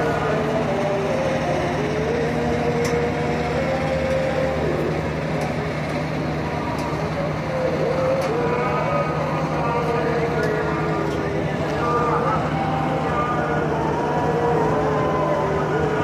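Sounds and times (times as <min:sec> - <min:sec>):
train humming: 0:00.0 - 0:16.0.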